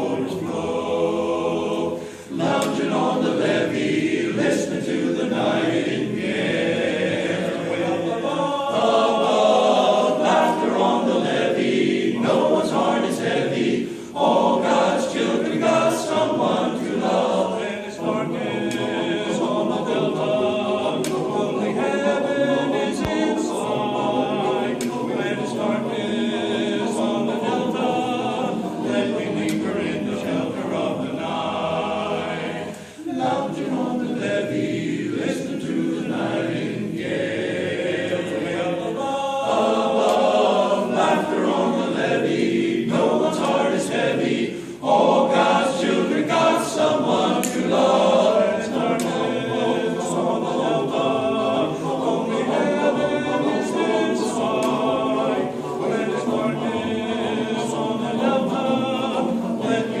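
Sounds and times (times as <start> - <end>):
choir singing: 0.0 - 60.0.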